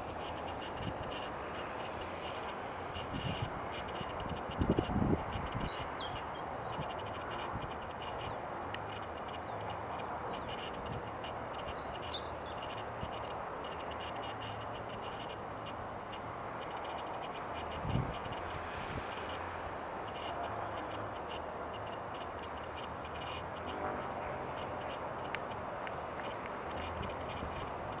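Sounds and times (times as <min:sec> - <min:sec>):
distant birds chattering: 0:00.0 - 0:28.0.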